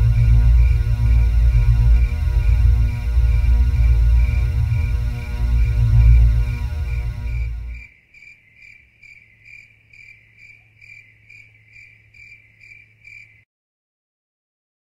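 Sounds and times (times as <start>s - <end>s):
faint low hum: 0.0s - 13.4s
cricket chirping: 0.0s - 13.5s.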